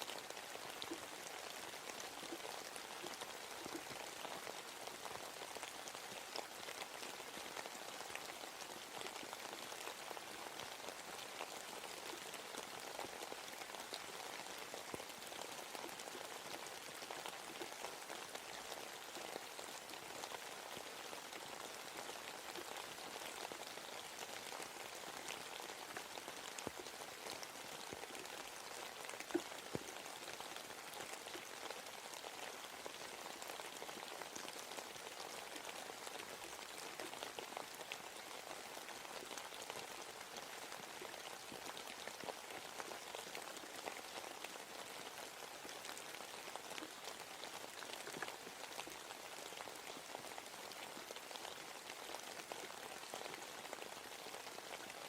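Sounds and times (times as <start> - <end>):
rain falling in a forest: 0.0 - 55.0.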